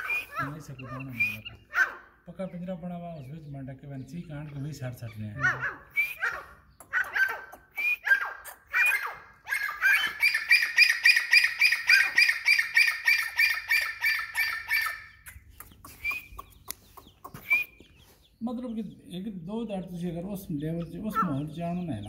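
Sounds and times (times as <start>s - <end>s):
francolin calling: 0.0s - 22.0s.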